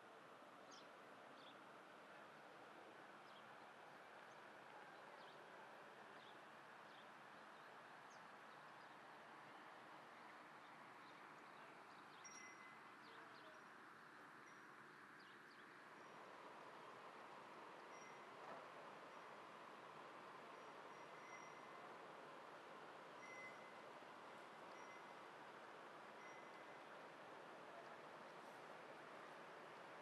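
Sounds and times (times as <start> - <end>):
faint outdoor background hiss: 0.0 - 30.0.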